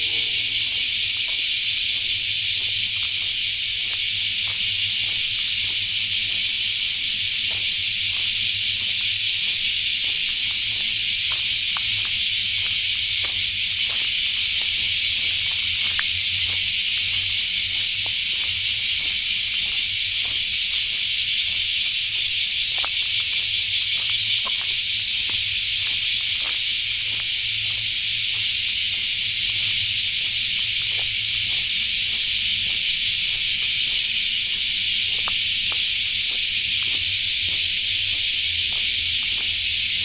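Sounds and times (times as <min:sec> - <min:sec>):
insects chorus shrilling: 0:00.0 - 0:40.0
soft footsteps: 0:00.0 - 0:40.0.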